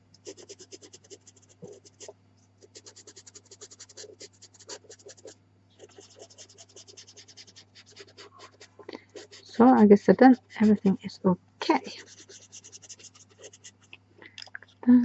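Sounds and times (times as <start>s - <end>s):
pastel pencil scratching on paper: 0.2s - 11.1s, 11.8s - 13.9s.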